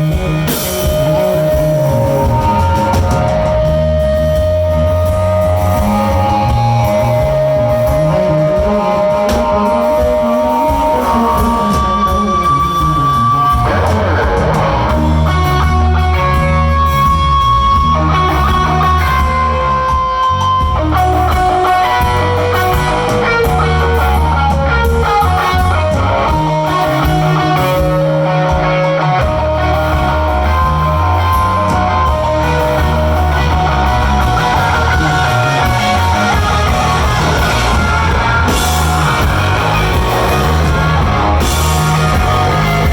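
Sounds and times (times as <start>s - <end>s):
bass guitar: 0.0s - 42.9s
drums: 0.0s - 42.9s
electric guitar lead lines: 0.0s - 42.9s.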